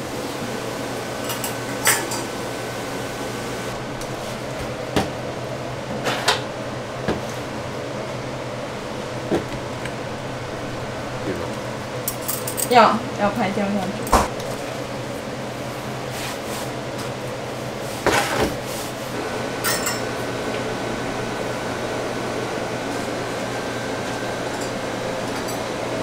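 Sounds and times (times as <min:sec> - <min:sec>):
kitchen fans whirring: 0:00.0 - 0:26.0.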